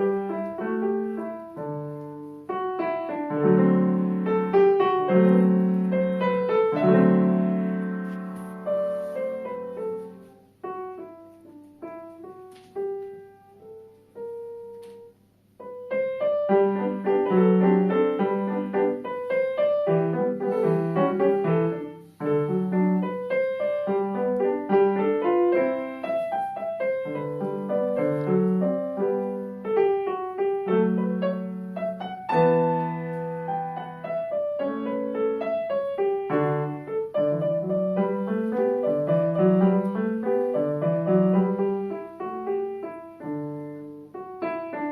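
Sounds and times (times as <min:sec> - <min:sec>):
solo piano: 0:00.0 - 0:44.9.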